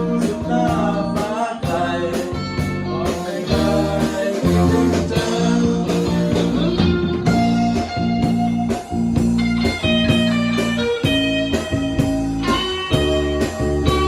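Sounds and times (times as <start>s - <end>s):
rock guitars: 0.0s - 14.0s
steady drum beat: 0.0s - 14.0s.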